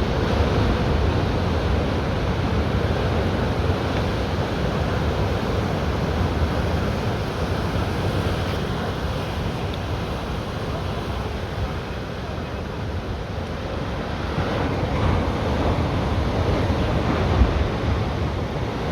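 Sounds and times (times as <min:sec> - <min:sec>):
sea surf washing: 0:00.0 - 0:18.9.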